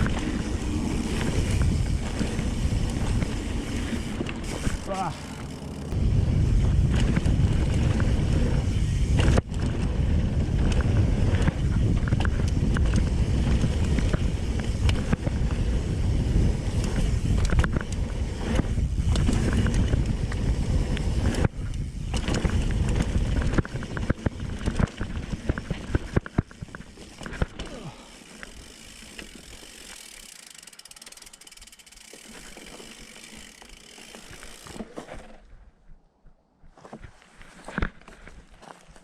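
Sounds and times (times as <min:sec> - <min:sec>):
bike chain clicking and knocking: 0:00.0 - 0:06.0, 0:06.6 - 0:35.4
bike tyres rumbling on dirt: 0:00.0 - 0:35.7.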